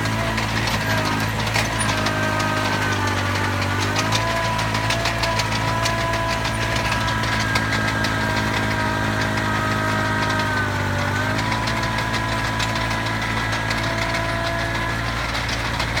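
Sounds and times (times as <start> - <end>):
fast ticking rattle: 0.0 - 16.0
tractor engine running: 0.0 - 16.0.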